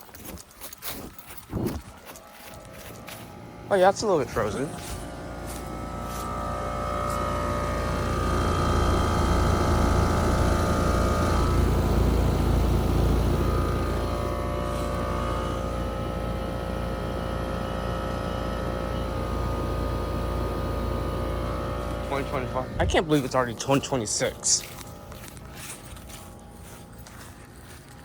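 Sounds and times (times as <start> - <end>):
heat pump compressor and fan hum: 0.0 - 28.0.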